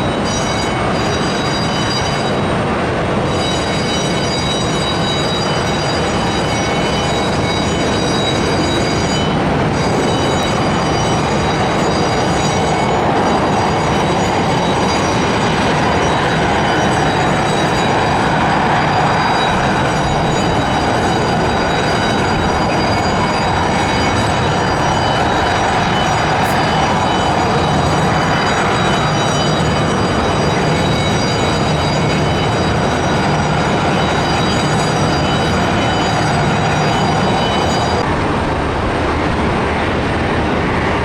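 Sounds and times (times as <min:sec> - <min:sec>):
jet engines rushing and whining: 0:00.0 - 0:41.0.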